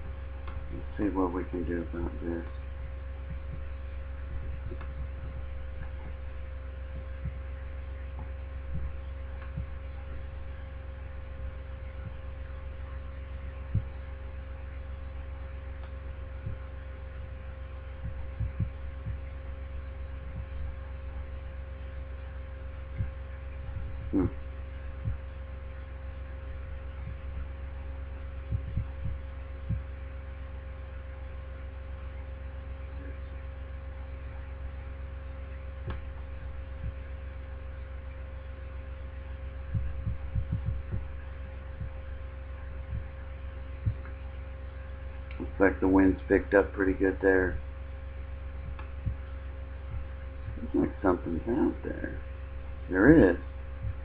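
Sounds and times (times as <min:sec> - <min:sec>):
steady tones: 0:00.0 - 0:30.2, 0:33.0 - 0:54.0
low rumble: 0:00.0 - 0:45.6, 0:47.5 - 0:54.0
soft low thumps: 0:00.0 - 0:45.7, 0:47.4 - 0:54.0
electrical hum: 0:00.0 - 0:54.0.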